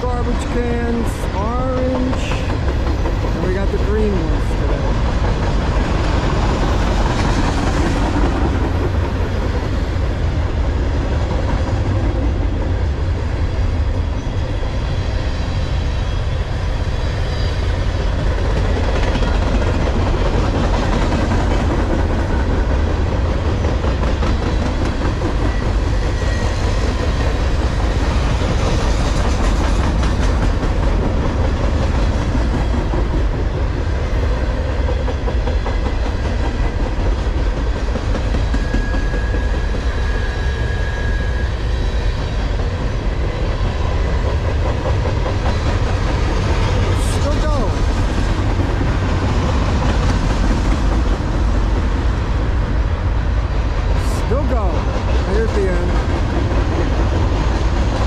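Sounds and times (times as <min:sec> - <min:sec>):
freight train rolling past: 0:00.0 - 0:58.0
steel wheels on rail: 0:00.0 - 0:58.0.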